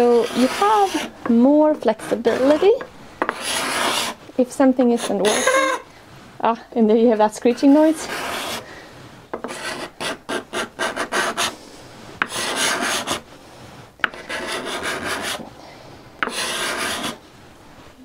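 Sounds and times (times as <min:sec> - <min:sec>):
scraper scraping wood: 0:00.0 - 0:05.8, 0:07.2 - 0:08.7, 0:09.3 - 0:15.4, 0:16.2 - 0:17.2.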